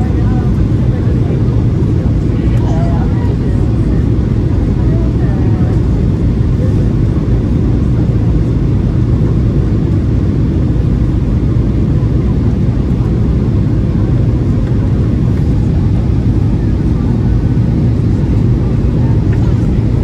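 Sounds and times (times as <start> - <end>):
jet engines roaring in cabin: 0.0 - 20.0.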